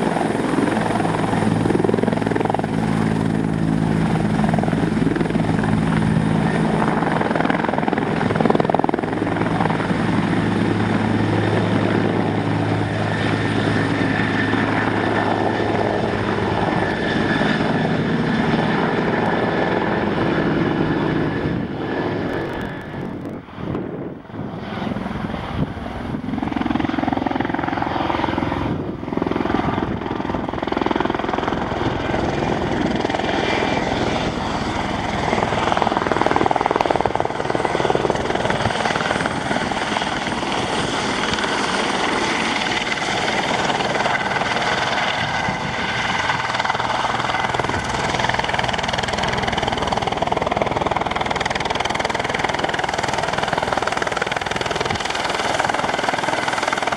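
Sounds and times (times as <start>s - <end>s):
helicopter rotor and engine: 0.0s - 56.9s.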